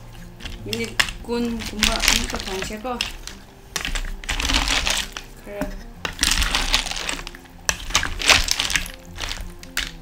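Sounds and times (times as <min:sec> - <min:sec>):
spatula scraping and stirring: 0:00.0 - 0:10.0.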